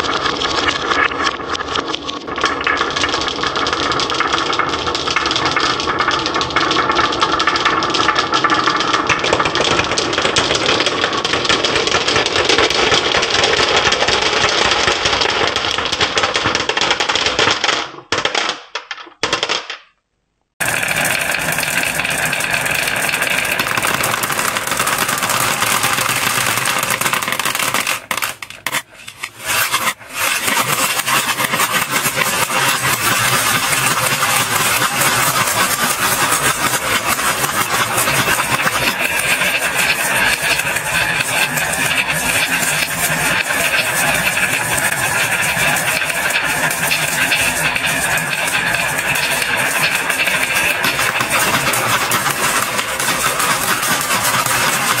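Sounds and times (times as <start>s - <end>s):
marbles rattling down wooden board: 0.0s - 19.9s, 20.6s - 55.0s.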